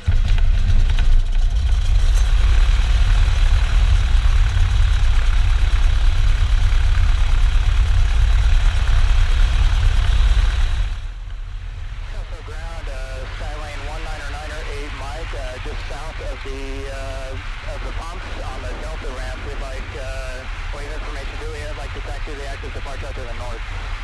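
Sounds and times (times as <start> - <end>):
airplane engine and propeller: 0.0 - 24.0.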